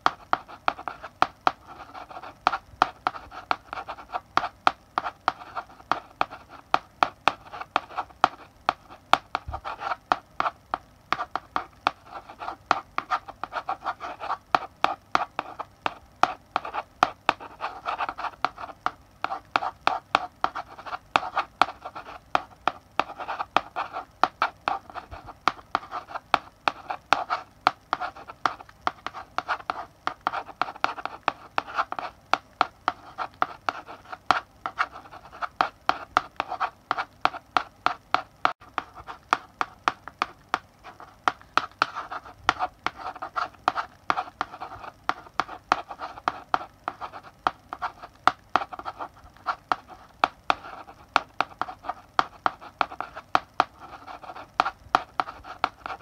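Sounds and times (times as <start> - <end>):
chalk tapping and scratching: 0.0 - 56.0.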